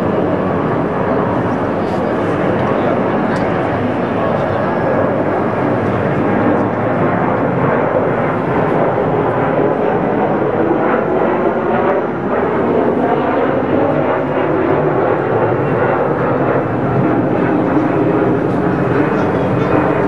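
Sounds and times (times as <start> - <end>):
jet airliner rumble overhead: 0.0 - 20.0.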